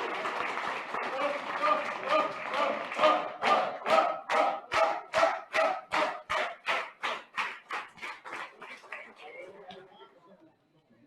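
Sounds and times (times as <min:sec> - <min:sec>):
audience clapping in unison: 0:00.0 - 0:09.6.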